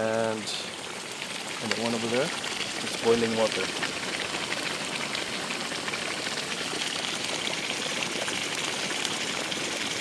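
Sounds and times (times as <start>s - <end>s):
hot spring water boiling: 0.0s - 10.0s.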